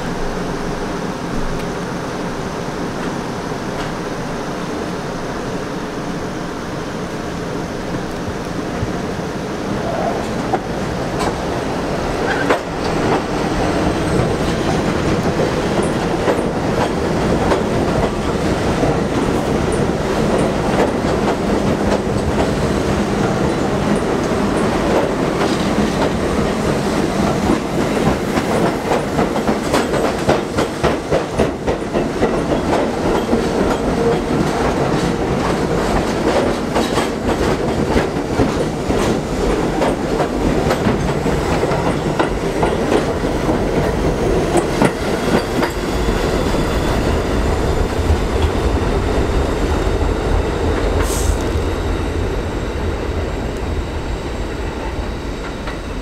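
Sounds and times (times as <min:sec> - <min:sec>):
subway train rumbling past: 0:00.0 - 0:56.0.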